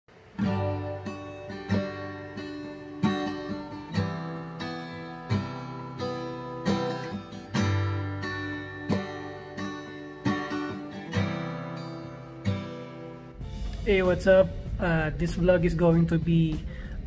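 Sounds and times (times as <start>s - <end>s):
acoustic guitar chords: 0.1s - 17.0s.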